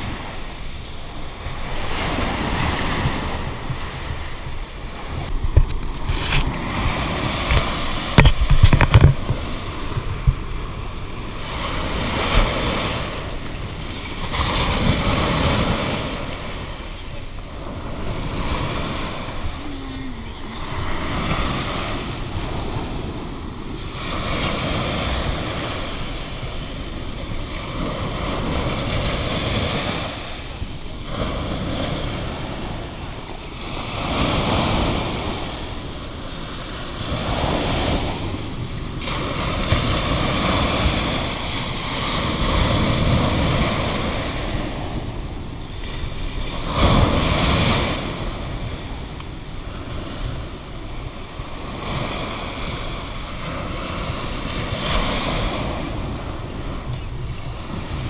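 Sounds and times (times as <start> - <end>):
wave crashing: 0.0 - 58.0
waves washing on sandy shore: 0.0 - 58.0.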